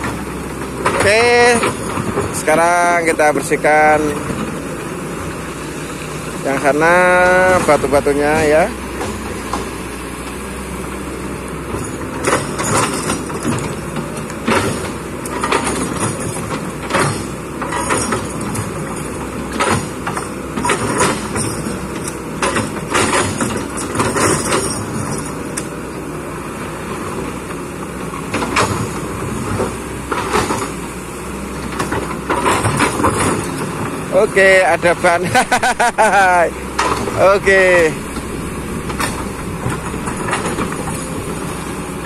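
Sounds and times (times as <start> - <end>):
excavator diesel engine: 0.0 - 42.0.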